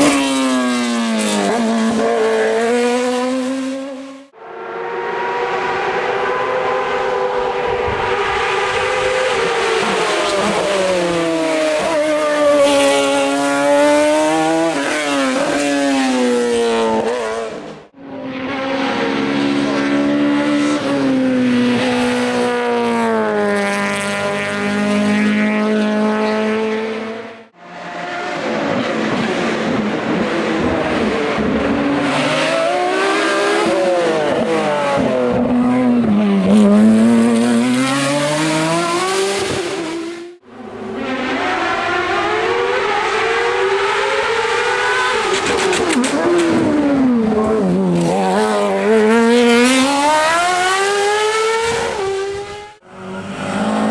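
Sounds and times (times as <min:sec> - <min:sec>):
race car engine at full throttle: 0:00.0 - 0:53.9.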